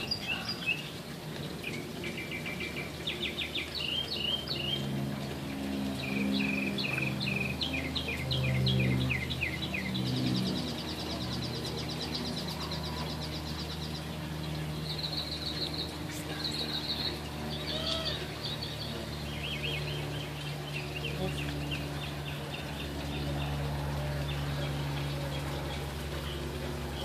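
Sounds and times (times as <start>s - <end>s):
birds chirping and trilling: 0.0s - 27.0s
steady low hum: 0.0s - 27.0s.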